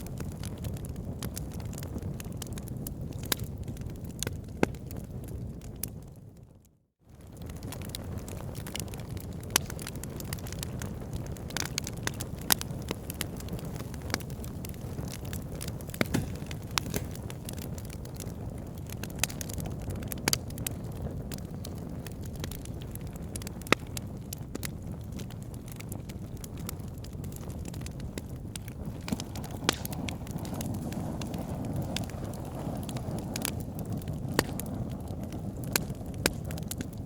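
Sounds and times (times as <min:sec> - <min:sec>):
wood fire crackling: 0:00.0 - 0:06.4, 0:07.1 - 0:37.0.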